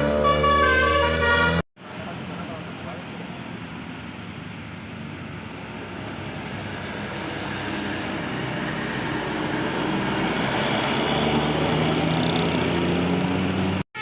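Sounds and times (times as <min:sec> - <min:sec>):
motor vehicle approaching: 0:00.0 - 0:13.8
road noise: 0:00.0 - 0:14.0.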